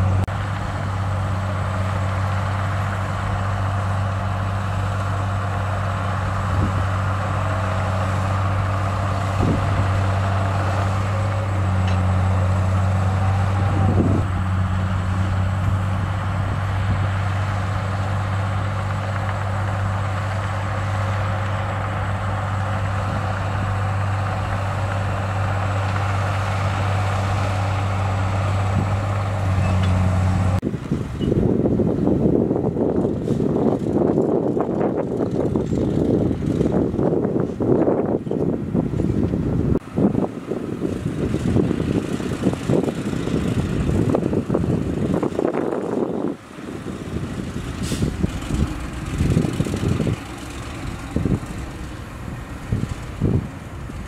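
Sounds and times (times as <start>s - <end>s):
bulldozer diesel engine: 0.0s - 54.0s.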